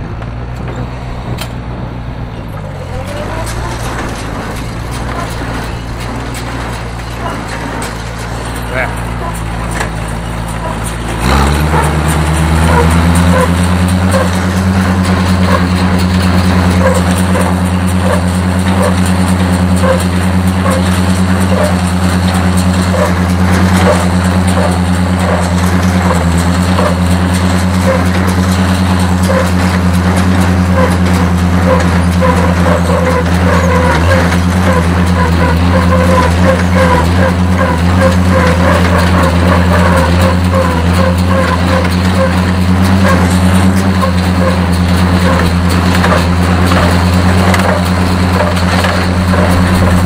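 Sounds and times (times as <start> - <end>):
tractor engine running: 0.0 - 50.0
baler ticking: 2.3 - 50.0.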